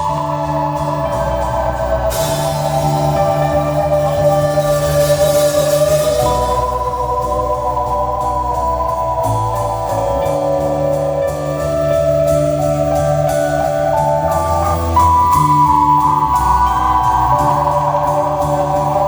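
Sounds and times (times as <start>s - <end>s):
bass line: 0.0s - 19.0s
cymbal strikes: 0.0s - 19.0s
keyboard chords: 0.0s - 19.0s.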